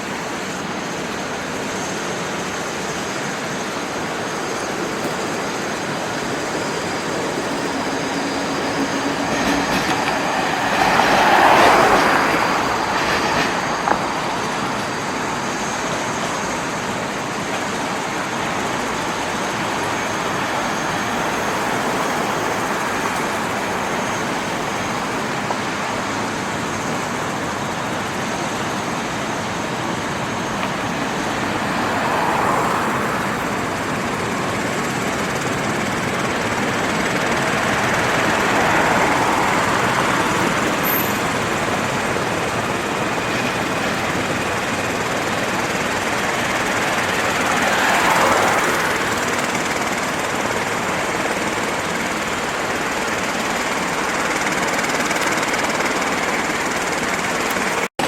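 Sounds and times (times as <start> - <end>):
train wheels clattering: 3.3 - 57.8.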